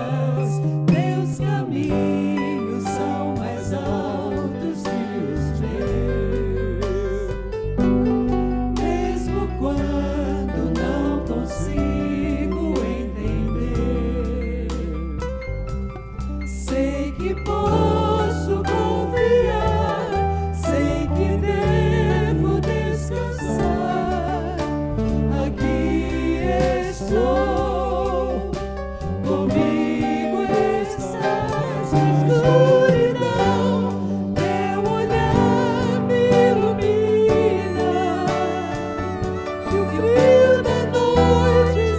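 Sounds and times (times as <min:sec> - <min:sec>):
gospel song with band: 0:00.0 - 0:41.9.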